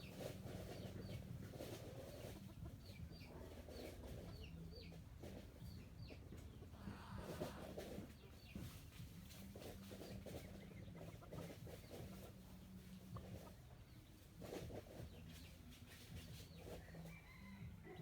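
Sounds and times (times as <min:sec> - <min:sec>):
chickens clucking faintly: 0:00.0 - 0:18.0.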